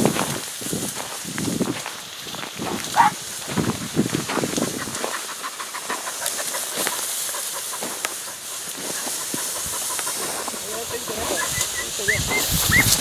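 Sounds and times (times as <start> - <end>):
reeds and brush rustling: 0.0 - 13.0
steady hiss: 0.0 - 13.0.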